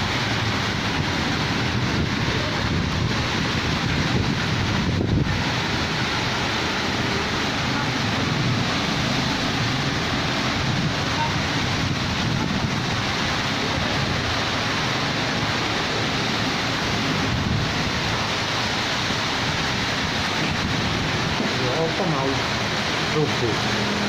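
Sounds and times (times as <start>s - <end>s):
rain in strong wind: 0.0s - 24.0s.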